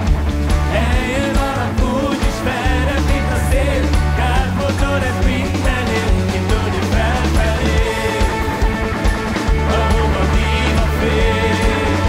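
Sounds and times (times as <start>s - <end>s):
rock band playing: 0.0s - 12.0s
person singing: 0.7s - 8.8s, 9.5s - 12.0s.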